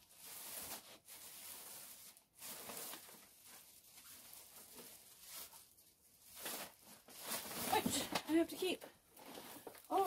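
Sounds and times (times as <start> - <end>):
plastic garbage bag rustling: 0.0 - 10.0.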